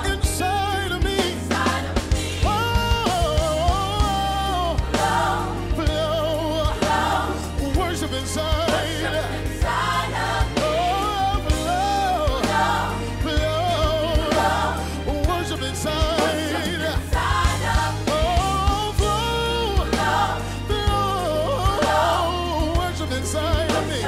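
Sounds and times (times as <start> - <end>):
gospel singing with vibrato: 0.0 - 24.0
steady bass line: 0.0 - 24.0.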